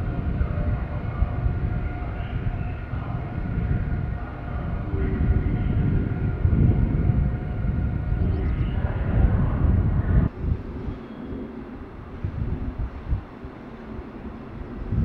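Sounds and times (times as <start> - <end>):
multi-tone train whine: 0.0 - 15.0
train rumble: 0.0 - 15.0.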